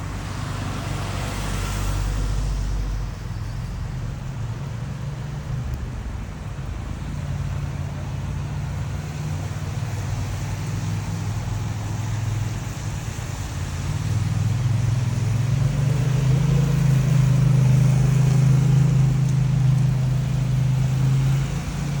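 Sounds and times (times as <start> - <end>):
road vehicle rumble: 0.0 - 22.0.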